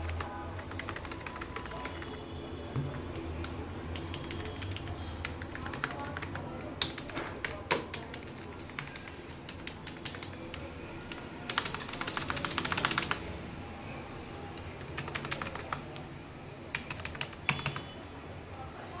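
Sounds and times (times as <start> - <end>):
mechanical keyboard typing: 0.0 - 13.3, 14.8 - 16.1, 16.7 - 17.9.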